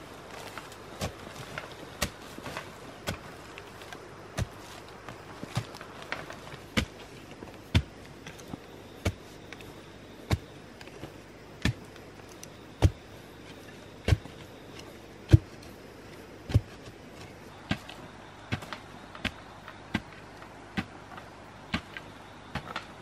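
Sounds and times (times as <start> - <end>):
crumbling earth ticks: 0.0 - 23.0.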